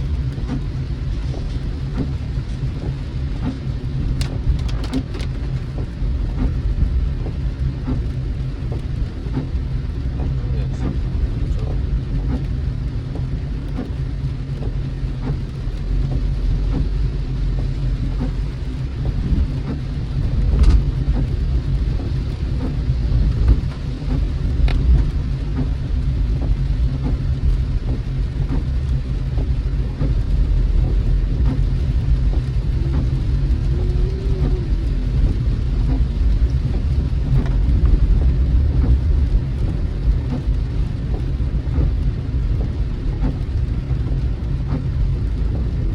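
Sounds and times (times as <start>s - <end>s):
car road and engine rumble: 0.0s - 45.9s
raindrops hitting car: 0.0s - 45.9s.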